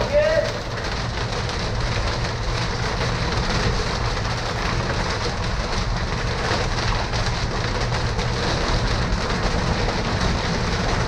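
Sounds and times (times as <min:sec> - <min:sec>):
low wind rumble: 0:00.0 - 0:11.0
rain and hail pattering: 0:00.0 - 0:11.0.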